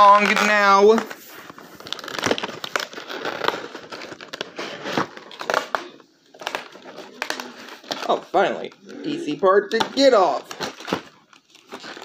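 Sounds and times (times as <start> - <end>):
plastic packaging crinkling: 0.0 - 8.8, 9.5 - 12.0.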